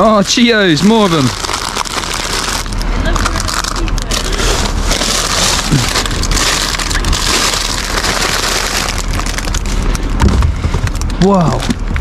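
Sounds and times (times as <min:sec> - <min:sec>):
plastic bags crackling and rustling: 0:00.0 - 0:12.0.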